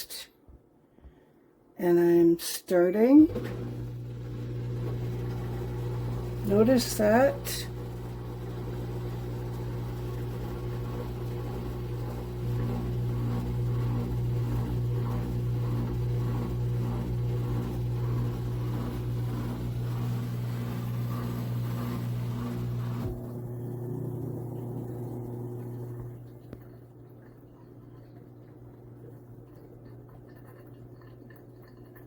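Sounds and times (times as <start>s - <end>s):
dishwasher pump hum: 3.0s - 32.0s.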